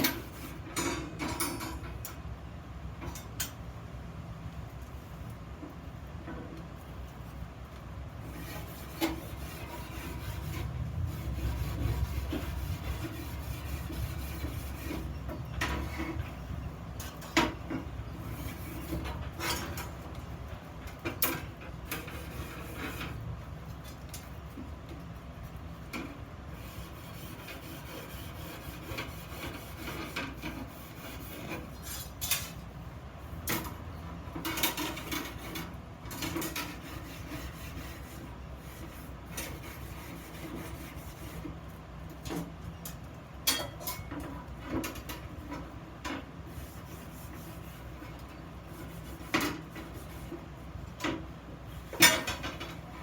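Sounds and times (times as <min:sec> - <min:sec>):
scraping and rubbing steel parts: 0:08.2 - 0:24.6, 0:25.2 - 0:32.8, 0:33.4 - 0:53.0.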